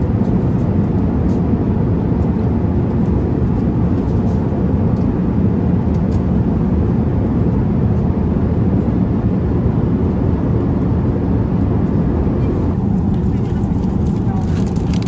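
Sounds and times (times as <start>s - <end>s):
aircraft cabin airflow and engine noise: 0.0s - 15.0s.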